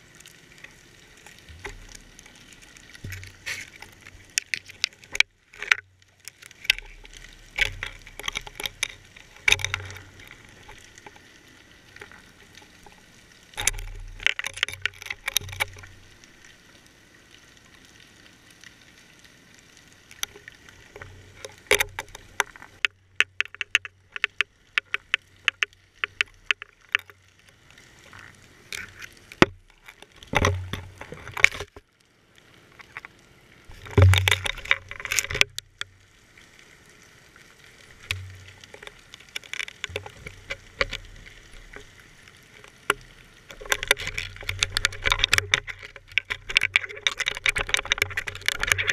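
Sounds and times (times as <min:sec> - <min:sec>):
faint water hiss: 0:00.0 - 0:48.9
sharp underwater clicks and knocks: 0:00.6 - 0:16.6, 0:20.1 - 0:31.9, 0:32.8 - 0:36.0, 0:37.8 - 0:48.9.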